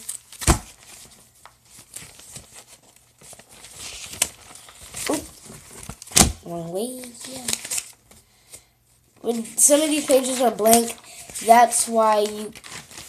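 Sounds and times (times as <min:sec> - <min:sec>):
paper pages rustling: 0:00.0 - 0:08.2, 0:09.2 - 0:13.0.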